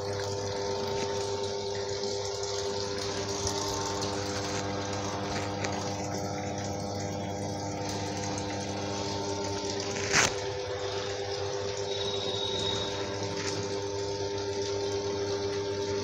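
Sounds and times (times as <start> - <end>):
water pouring into washing machine: 0.0 - 16.0
water pump motor humming: 0.0 - 16.0.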